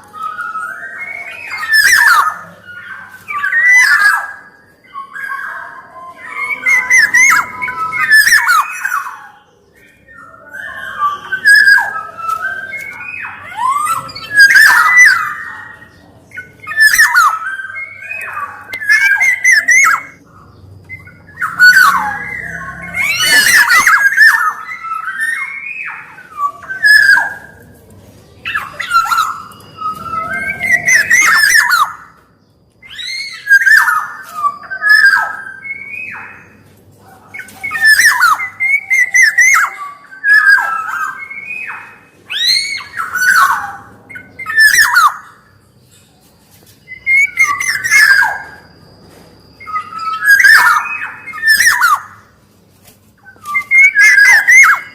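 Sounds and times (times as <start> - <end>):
oriole fluting whistles: 0.0 - 27.8, 28.4 - 32.2, 32.8 - 45.7, 46.8 - 52.4, 53.2 - 54.9.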